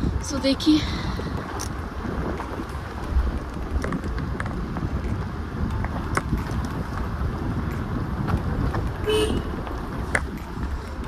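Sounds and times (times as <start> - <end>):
vehicle low rumble: 0.0 - 11.0
wind buffeting microphone: 0.0 - 11.0.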